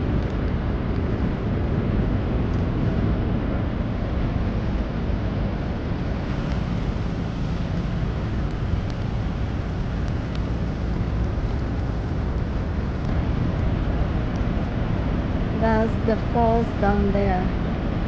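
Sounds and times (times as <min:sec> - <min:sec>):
steady low rushing noise: 0:00.0 - 0:18.0
wind on microphone: 0:00.0 - 0:18.0.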